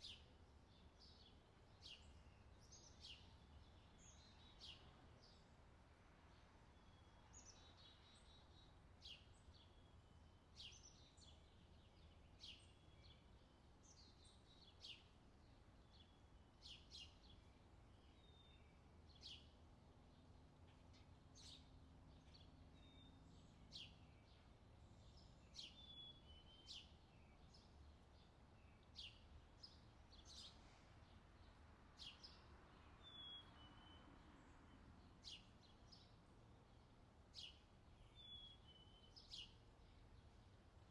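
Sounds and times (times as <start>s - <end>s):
bird chirping: 6.8s - 40.9s.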